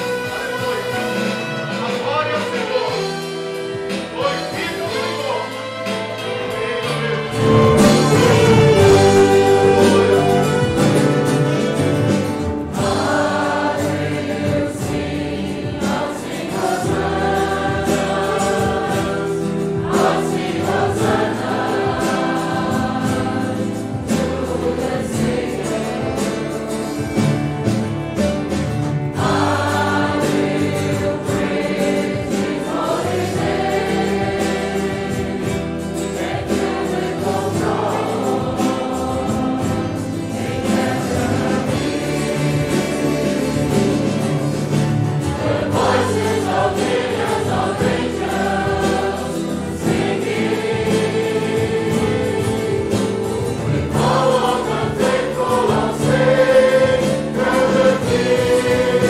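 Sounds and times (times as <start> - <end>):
congregation singing a hymn: 0.0 - 59.0
instrumental accompaniment: 0.0 - 59.0.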